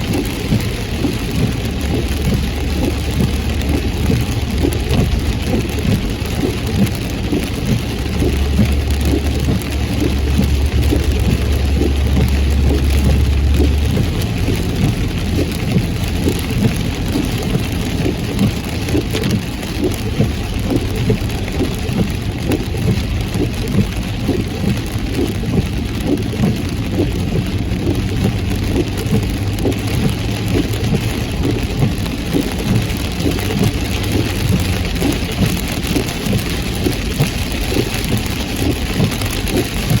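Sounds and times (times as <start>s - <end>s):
car engine and tyres: 0.0s - 40.0s
deep low rumble: 0.0s - 40.0s
heavy rain drumming on a car: 0.0s - 40.0s.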